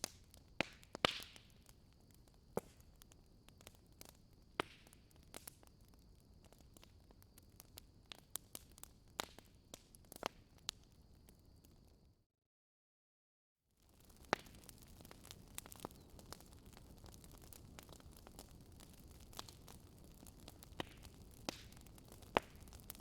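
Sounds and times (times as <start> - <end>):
wood fire crackling: 0.0 - 12.0, 13.8 - 23.0.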